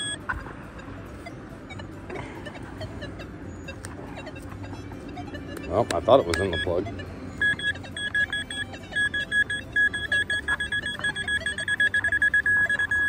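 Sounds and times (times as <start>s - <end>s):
metal detector beeping: 0.0s - 13.0s.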